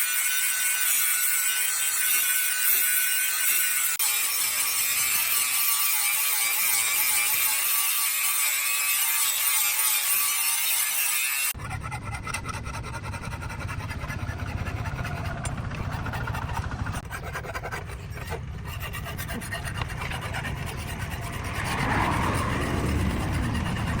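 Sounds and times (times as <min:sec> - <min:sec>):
grinder grinding metal blade: 0:00.0 - 0:24.0.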